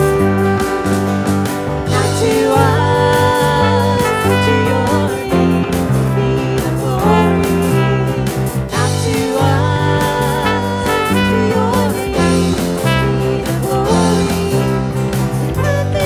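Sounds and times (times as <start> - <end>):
worship song played by band: 0.0 - 16.0.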